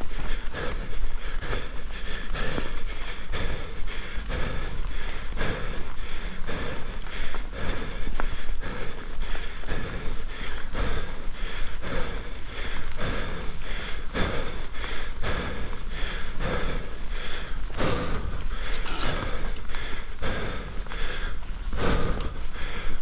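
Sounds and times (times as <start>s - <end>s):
person breathing hard: 0.0s - 23.0s
wind and riding rumble: 0.0s - 23.0s.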